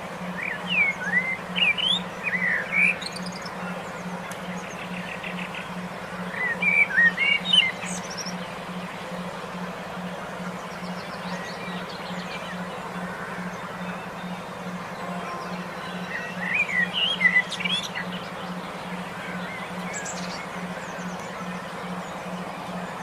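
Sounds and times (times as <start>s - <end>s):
constant hiss: 0.0s - 23.0s
pulsing low tone: 0.0s - 23.0s
songbird whistling: 0.3s - 5.6s, 6.3s - 8.5s, 10.5s - 23.0s.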